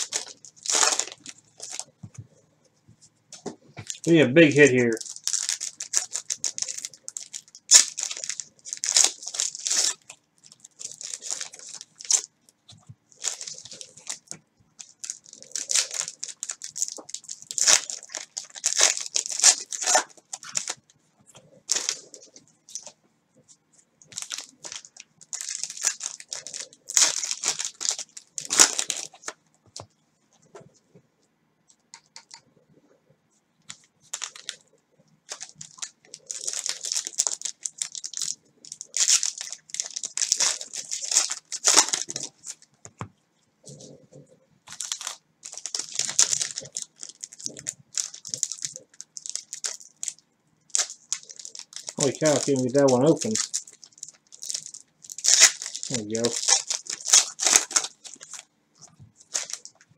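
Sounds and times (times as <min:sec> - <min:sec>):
plastic wrappers tearing and crinkling: 0:00.0 - 0:02.0, 0:03.3 - 0:23.0, 0:24.1 - 0:29.4, 0:33.7 - 0:34.6, 0:35.3 - 0:42.7, 0:43.6 - 0:59.9.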